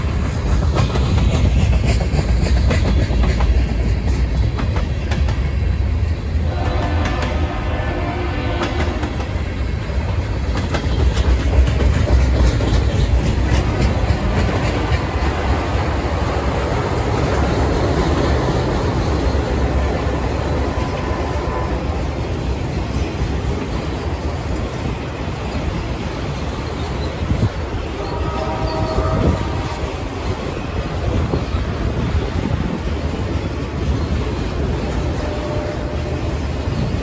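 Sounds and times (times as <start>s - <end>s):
wheels clacking over rail joints: 0.0s - 7.8s, 8.4s - 37.0s
freight train rumbling past: 0.0s - 37.0s.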